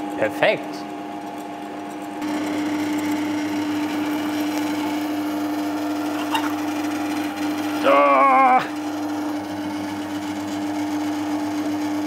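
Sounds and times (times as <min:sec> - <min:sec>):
drill press motor humming: 0:00.8 - 0:12.0.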